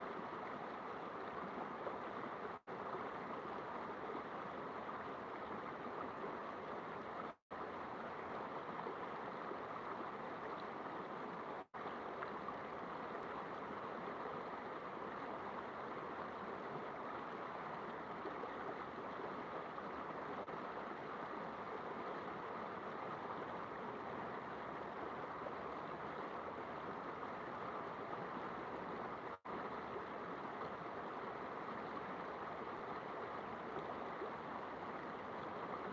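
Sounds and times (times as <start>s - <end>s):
river water flowing: 0.0s - 35.9s.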